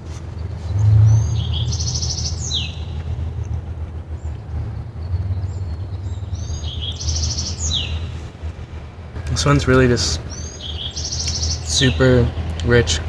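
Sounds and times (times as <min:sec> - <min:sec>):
songbird singing: 0:00.0 - 0:13.0
truck traffic rumble: 0:00.0 - 0:13.0.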